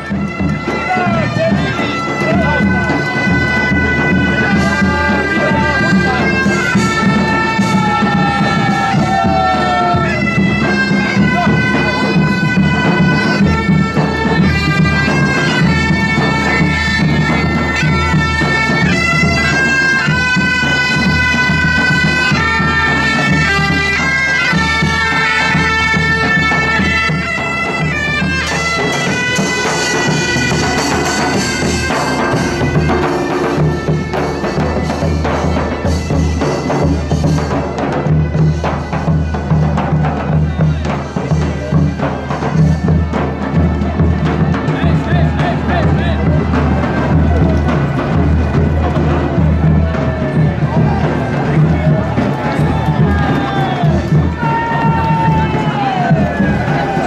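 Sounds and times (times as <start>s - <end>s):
bagpipes playing a melody: 0.0s - 57.0s
drum beating: 0.0s - 57.0s.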